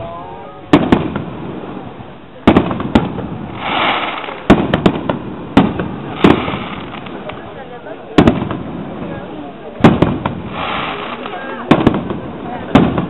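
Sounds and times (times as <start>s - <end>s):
firework bangs: 0.7s - 13.0s
firework hissing crackle: 0.7s - 13.0s.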